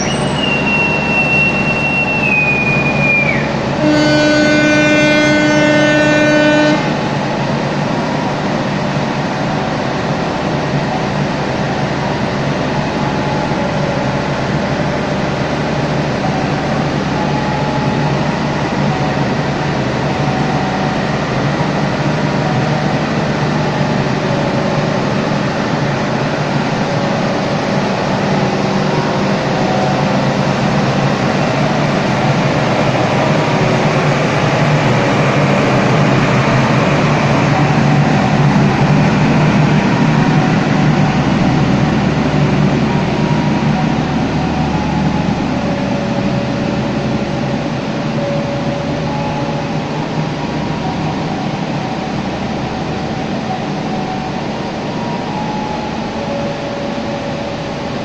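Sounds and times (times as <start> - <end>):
diesel train humming: 0.0 - 58.0
passenger train pulling away: 0.0 - 58.0.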